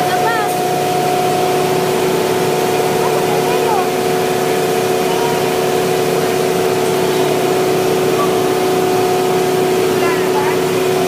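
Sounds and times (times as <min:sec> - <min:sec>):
machinery humming: 0:00.0 - 0:11.0
machinery rumble: 0:00.0 - 0:11.0.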